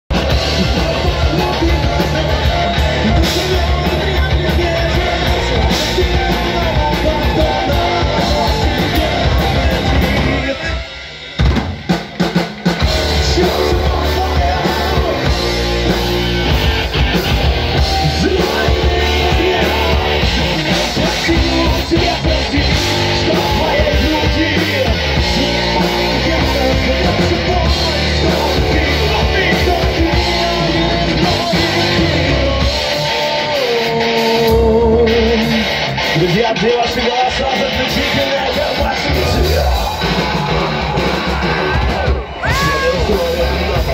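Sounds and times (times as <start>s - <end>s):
drum kit: 0.1s - 43.9s
electric guitars: 0.1s - 43.9s
lead singer singing: 0.1s - 43.9s.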